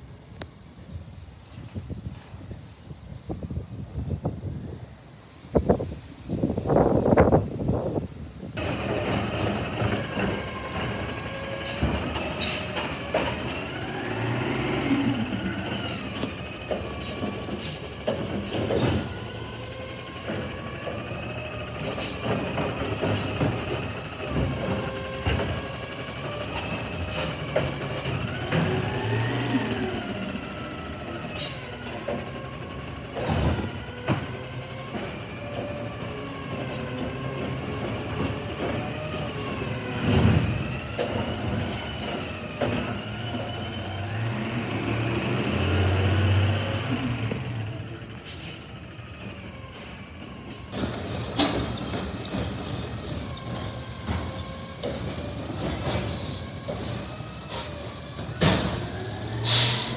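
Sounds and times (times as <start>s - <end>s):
garbage truck diesel engine revving: 8.6s - 59.9s
hydraulic whine: 8.6s - 59.9s.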